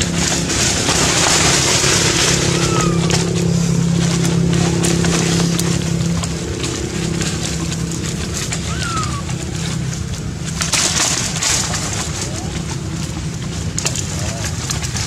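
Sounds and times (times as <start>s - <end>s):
motor hum: 0.0s - 15.0s.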